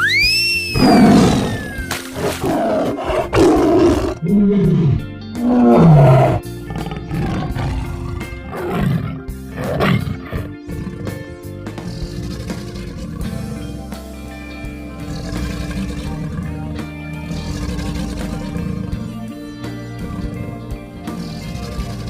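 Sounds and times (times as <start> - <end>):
light children's music: 0.0 - 22.0
lion roaring and grunting: 0.8 - 13.8, 14.8 - 22.0.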